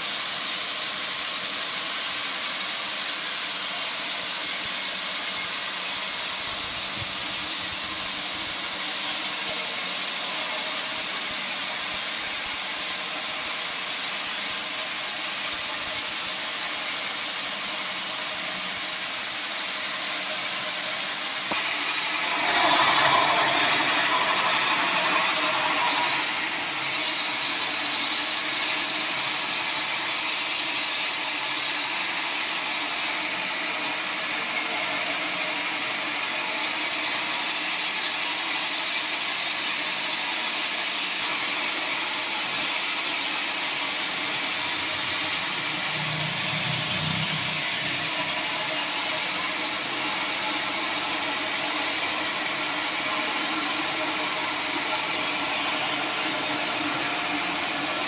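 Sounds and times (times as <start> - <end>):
sawmill saw running: 0.0 - 58.0.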